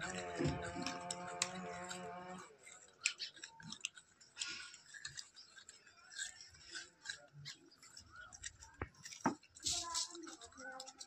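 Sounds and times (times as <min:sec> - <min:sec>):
chewing clicks and scrapes: 0:00.0 - 0:11.0.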